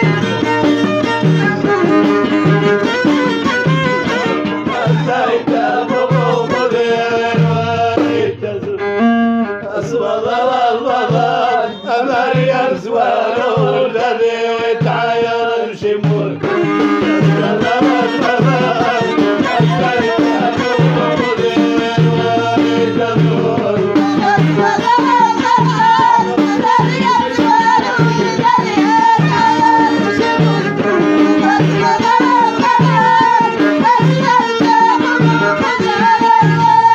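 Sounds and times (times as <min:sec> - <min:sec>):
hand drum beat: 0:00.0 - 0:08.8, 0:09.4 - 0:36.9
violin: 0:00.0 - 0:13.2, 0:16.2 - 0:36.9
folk melody: 0:00.0 - 0:36.9
person singing: 0:04.0 - 0:15.0, 0:15.8 - 0:36.9.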